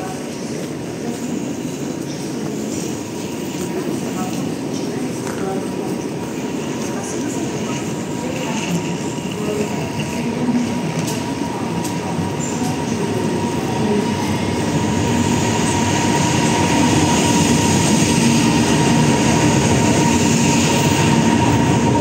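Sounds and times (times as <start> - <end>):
electric locomotive machine noise: 0.0 - 22.0.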